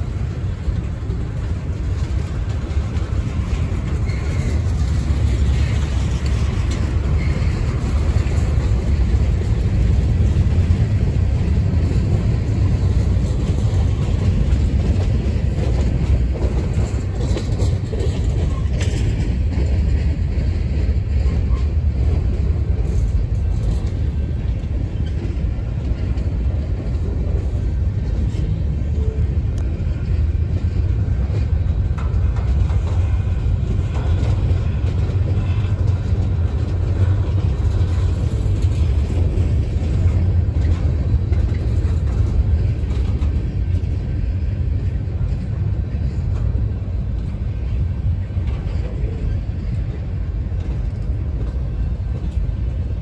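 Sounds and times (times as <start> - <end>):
freight cars rumbling on rails: 0.0 - 53.0.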